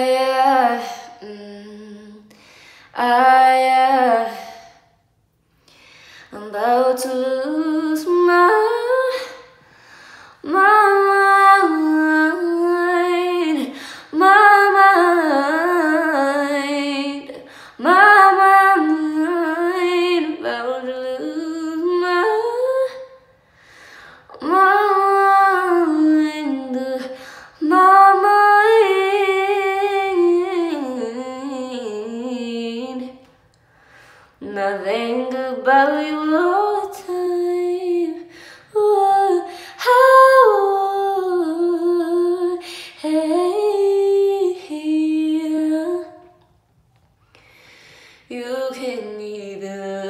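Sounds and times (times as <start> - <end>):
woman singing unaccompanied: 0.0 - 2.3, 3.0 - 4.8, 6.3 - 9.5, 10.4 - 23.1, 24.3 - 33.3, 34.4 - 46.4, 48.3 - 50.0.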